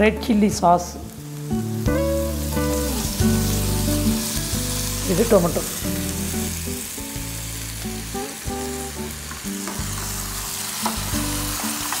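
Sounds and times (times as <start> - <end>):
background music of held notes: 0.0 - 12.0
food sizzling in a frying pan: 0.2 - 12.0.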